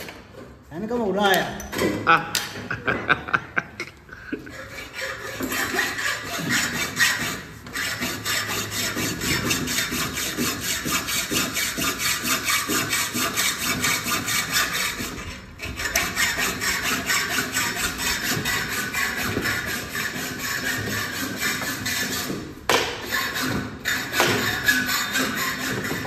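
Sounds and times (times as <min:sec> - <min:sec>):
hacksaw cutting metal: 0:04.4 - 0:26.0.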